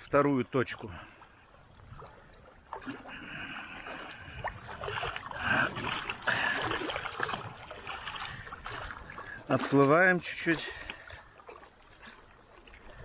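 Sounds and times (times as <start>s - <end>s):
waves lapping against stones: 0.0s - 13.0s.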